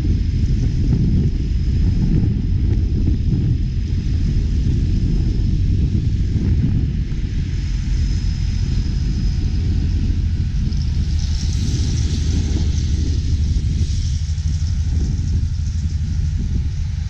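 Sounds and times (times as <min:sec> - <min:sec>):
heavy machinery engine rumbling: 0:01.4 - 0:17.0.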